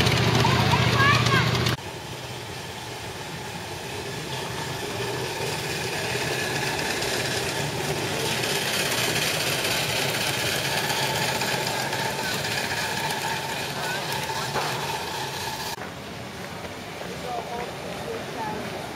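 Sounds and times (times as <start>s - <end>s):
miniature train engine running: 0.0s - 15.8s
train cars rolling on track: 0.0s - 18.9s.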